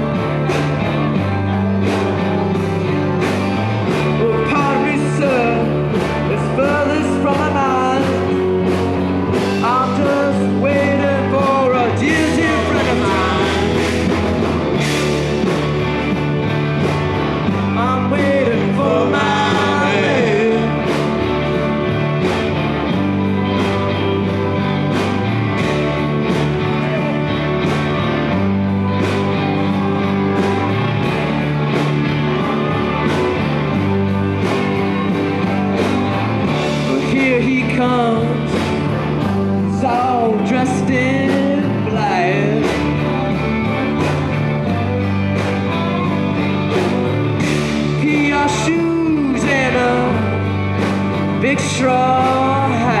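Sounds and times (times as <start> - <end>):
bending lead guitar line: 0.0 - 53.0
live rock band playing: 0.0 - 53.0.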